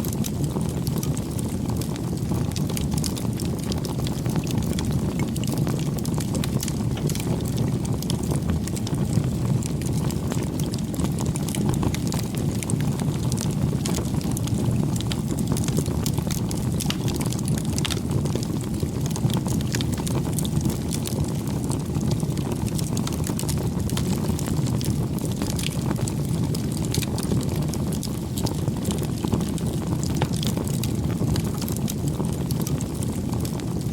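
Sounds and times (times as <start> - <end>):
campfire flames rushing: 0.0 - 33.9
wood crackling and popping: 0.0 - 33.9.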